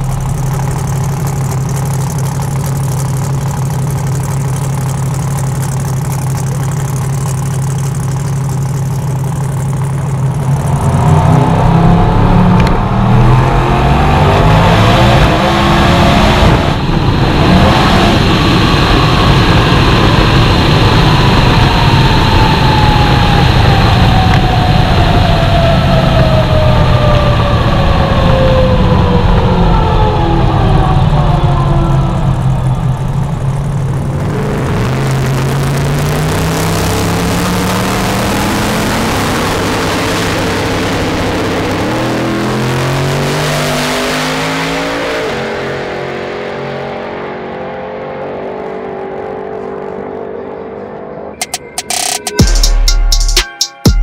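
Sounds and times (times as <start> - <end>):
falling whine: 0.0 - 49.2
drag racing engine roaring: 0.0 - 54.0.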